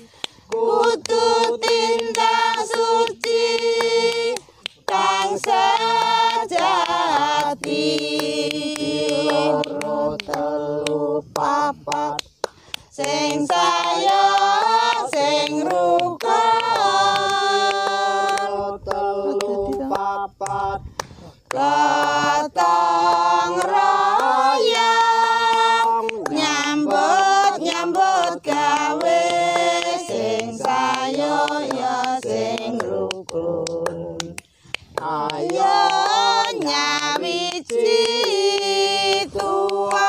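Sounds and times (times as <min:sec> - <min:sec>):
person singing unaccompanied: 0:00.0 - 0:40.0.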